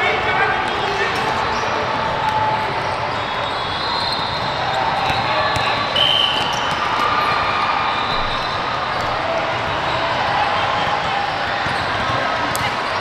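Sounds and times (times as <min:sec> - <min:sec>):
voices of players and spectators: 0:00.0 - 0:13.0.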